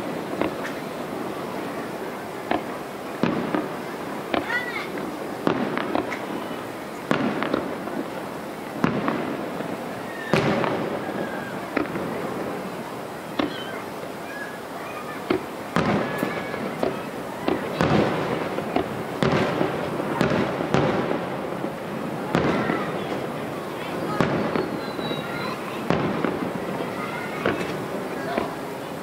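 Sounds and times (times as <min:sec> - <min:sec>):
firework shells bursting: 0:00.0 - 0:01.7, 0:02.4 - 0:14.1, 0:15.2 - 0:28.9.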